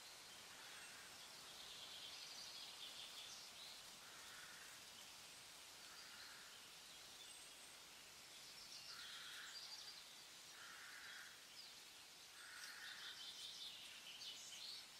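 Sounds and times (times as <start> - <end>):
faint birds chirping: 0.0 - 14.9.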